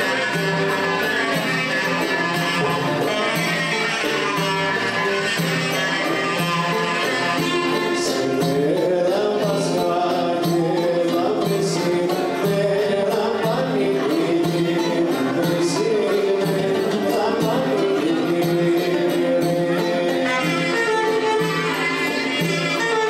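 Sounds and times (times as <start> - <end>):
clarinet: 0.0 - 12.5, 13.3 - 23.0
frame drum with jingles: 0.0 - 23.0
man singing: 0.0 - 23.0
violin: 0.0 - 23.0.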